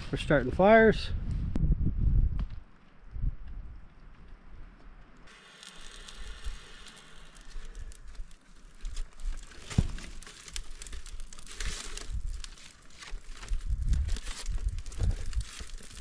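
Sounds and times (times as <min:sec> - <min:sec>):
fire crackling: 0:02.2 - 0:16.0.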